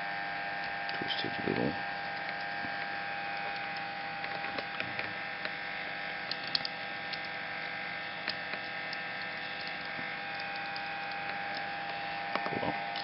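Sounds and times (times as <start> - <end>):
electrical hum with high whine: 0.0 - 13.0.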